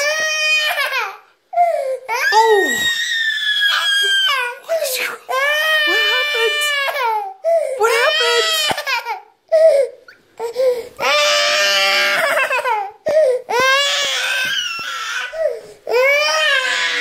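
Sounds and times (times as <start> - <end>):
toddler crying loudly: 0.0 - 1.2, 2.1 - 4.7, 5.3 - 9.3, 11.0 - 17.0.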